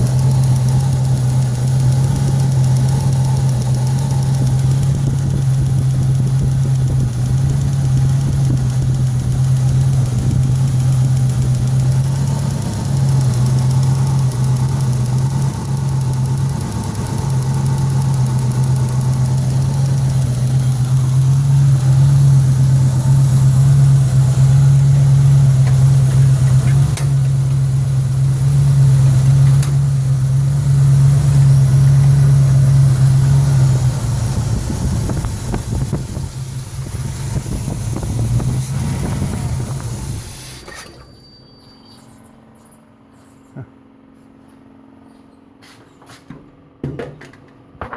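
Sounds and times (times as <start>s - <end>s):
valve train ticking: 0.0s - 41.1s
car engine idling: 0.0s - 41.2s.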